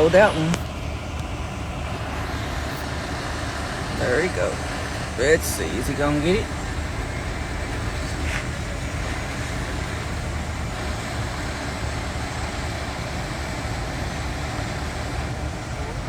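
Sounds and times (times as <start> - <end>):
street traffic noise: 0.0 - 16.0
tow truck engine running: 0.0 - 16.0.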